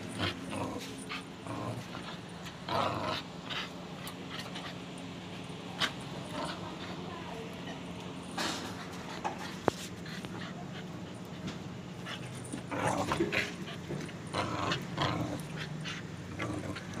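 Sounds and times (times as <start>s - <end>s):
puppy growling: 0.0s - 11.4s, 12.0s - 17.0s.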